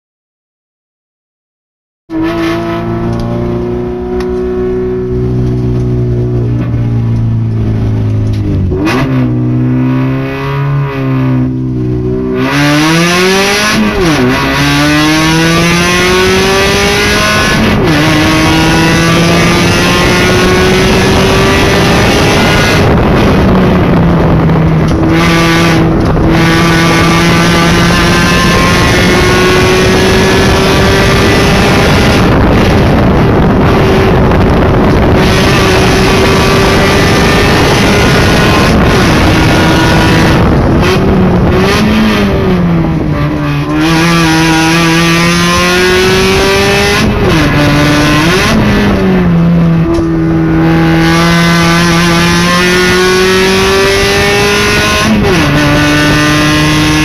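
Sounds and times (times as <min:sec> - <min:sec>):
car engine revving through gears: 0:02.1 - 0:57.0
road noise: 0:02.1 - 0:57.0
wind noise: 0:02.2 - 0:57.0.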